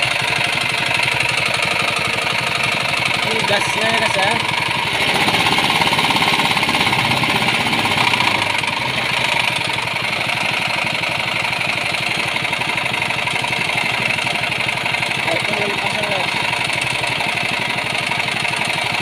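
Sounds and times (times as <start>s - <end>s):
petrol engine running: 0.0s - 19.0s.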